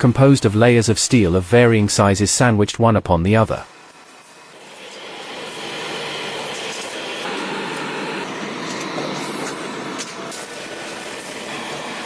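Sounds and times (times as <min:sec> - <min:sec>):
factory machinery noise: 0:00.0 - 0:02.5, 0:03.3 - 0:12.0.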